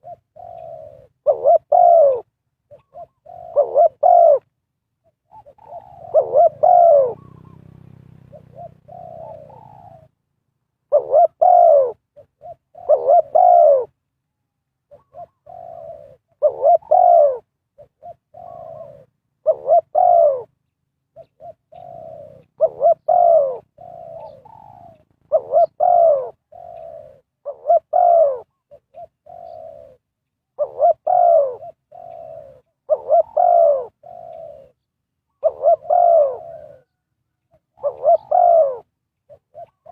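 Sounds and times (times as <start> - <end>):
dove cooing: 0.0 - 10.2, 10.8 - 14.0, 14.8 - 39.9.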